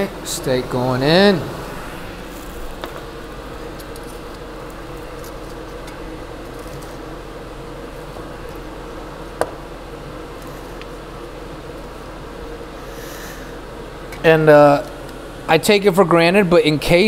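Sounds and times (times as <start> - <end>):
kitchen hum with faint hiss: 0.0 - 17.0.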